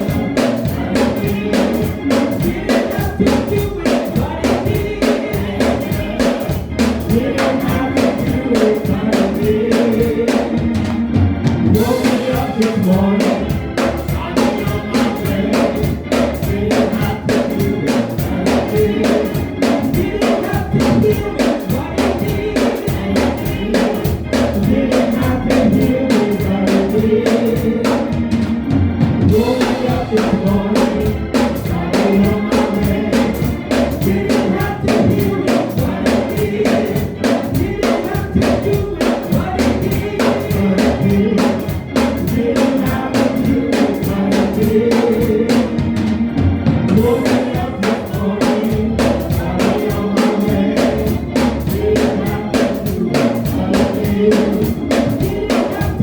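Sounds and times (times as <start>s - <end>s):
drum kit beat: 0.0s - 56.0s
gospel choir singing: 0.0s - 56.0s
live band: 0.0s - 56.0s.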